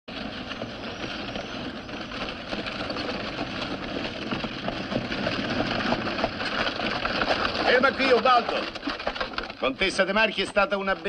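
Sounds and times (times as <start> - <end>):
carriage wheels rolling over street: 0.1 - 11.0
hooves clopping: 0.1 - 11.0.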